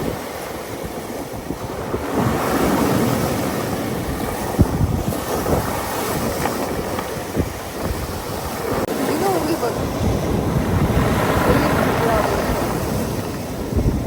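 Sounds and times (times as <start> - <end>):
rough sea waves washing in: 0.0 - 14.0
wind buffeting microphone: 0.0 - 14.0.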